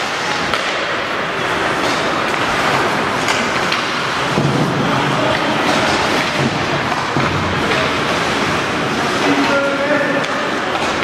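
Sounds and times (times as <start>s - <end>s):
ice hockey game rushing noise: 0.0s - 11.0s.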